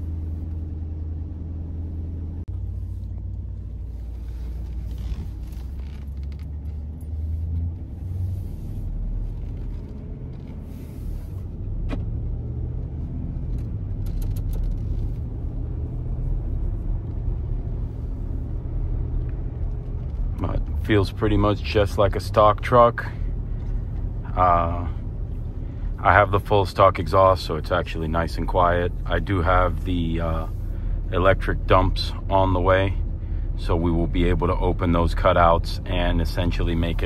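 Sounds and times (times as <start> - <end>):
engine and road rumble in cab: 0.0 - 37.0.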